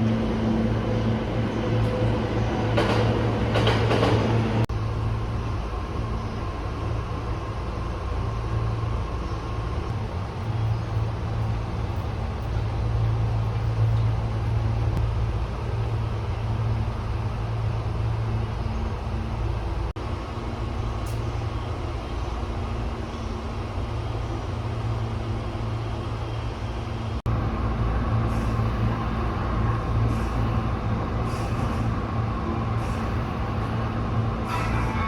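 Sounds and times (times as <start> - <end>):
train electric hum: 0.0 - 35.0.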